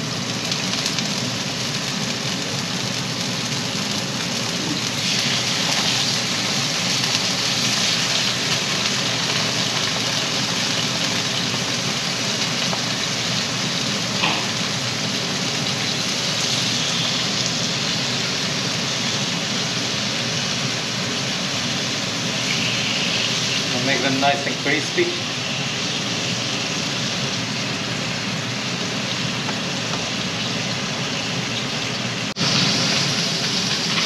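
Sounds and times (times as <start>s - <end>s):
fish sizzling in a frying pan: 0.0s - 34.0s.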